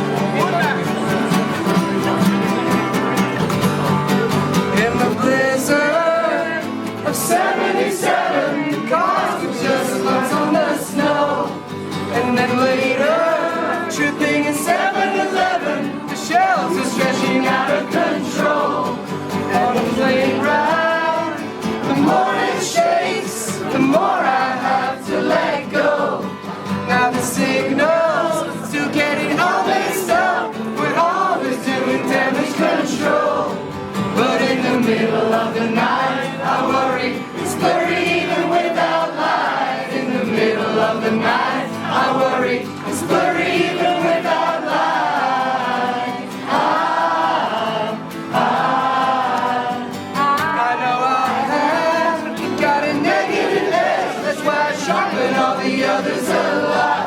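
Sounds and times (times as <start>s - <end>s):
people singing: 0.0s - 57.0s
strummed acoustic guitar: 0.0s - 57.0s.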